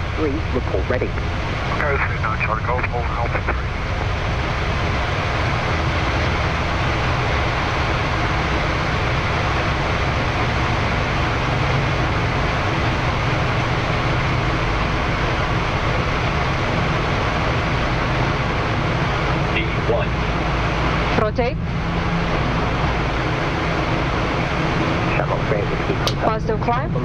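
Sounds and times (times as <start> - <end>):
jet engines roaring at takeoff: 0.0 - 27.0.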